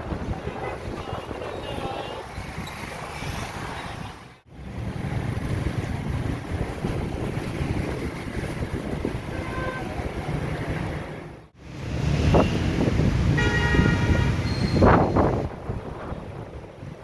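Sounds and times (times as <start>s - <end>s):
strong wind on microphone: 0.0s - 10.6s, 11.8s - 17.0s.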